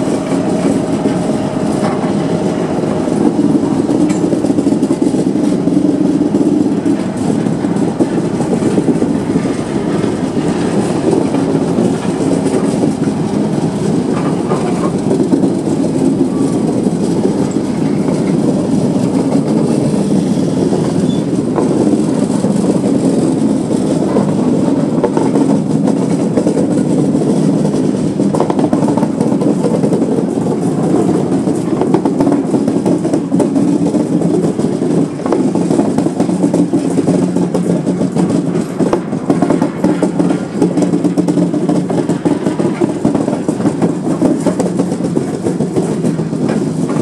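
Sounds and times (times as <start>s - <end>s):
diesel locomotive engine idling: 0.0s - 47.0s.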